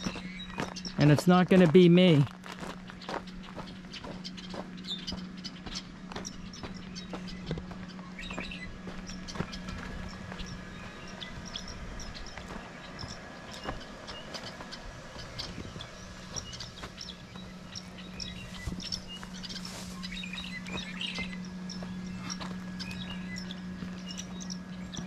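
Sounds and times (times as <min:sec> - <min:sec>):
small birds chirping: 0:00.0 - 0:25.0
steady low hum: 0:00.0 - 0:25.0.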